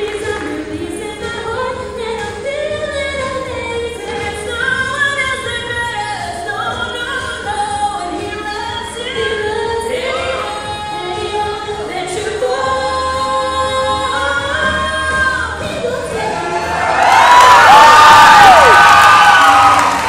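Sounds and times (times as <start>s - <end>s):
choir singing pop: 0.0s - 17.2s
women singing lead into microphones: 0.0s - 18.9s.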